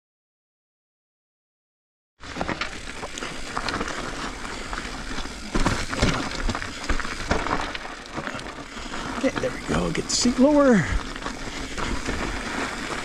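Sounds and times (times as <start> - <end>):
mountain bike rattling on trail: 2.2 - 13.0.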